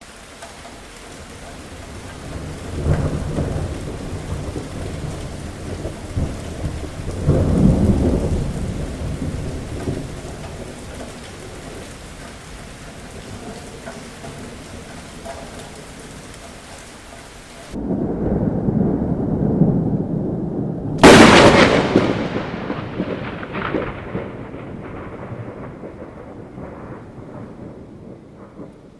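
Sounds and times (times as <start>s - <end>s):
heavy rain falling: 0.0s - 28.9s
deep rolls of thunder: 0.6s - 16.9s, 17.7s - 28.9s.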